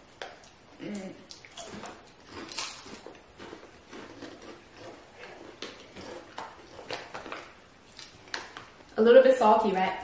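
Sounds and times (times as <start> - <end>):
potato chips being chewed: 0.2 - 9.0.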